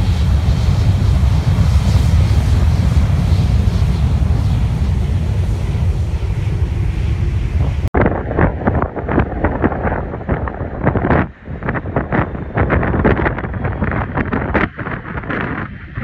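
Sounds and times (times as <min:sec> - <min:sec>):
gusty storm wind: 0:00.0 - 0:16.0
jet blast rumble: 0:00.0 - 0:16.0
wind buffeting microphone: 0:00.0 - 0:16.0.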